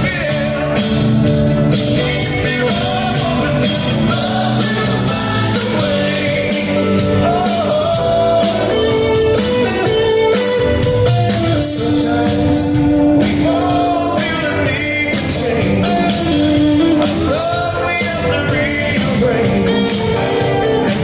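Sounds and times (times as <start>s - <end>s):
live rock band playing: 0.0s - 21.0s
steady drum beat: 0.0s - 21.0s.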